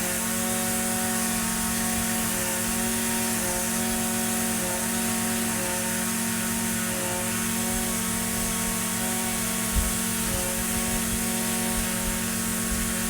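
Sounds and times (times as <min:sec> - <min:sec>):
string trimmer engine running: 0:00.0 - 0:13.0.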